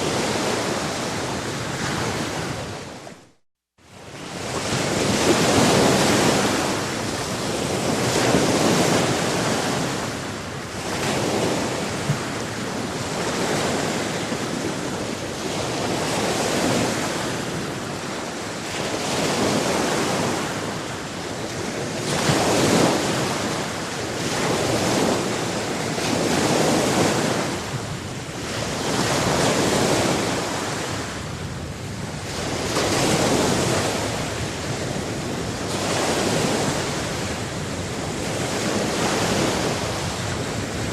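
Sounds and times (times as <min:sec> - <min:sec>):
waves breaking: 0:00.0 - 0:03.4, 0:04.0 - 0:40.9
wind on microphone: 0:00.0 - 0:40.9.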